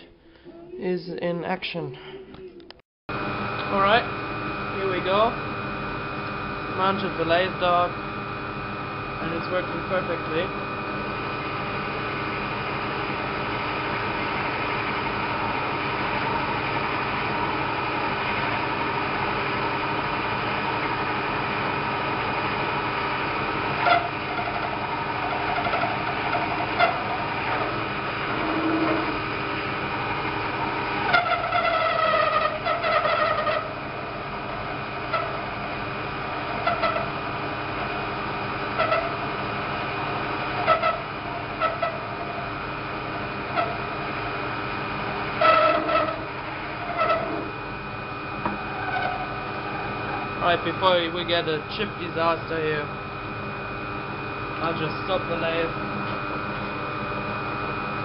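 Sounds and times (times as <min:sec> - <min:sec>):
metal lathe running: 0:03.1 - 0:58.0.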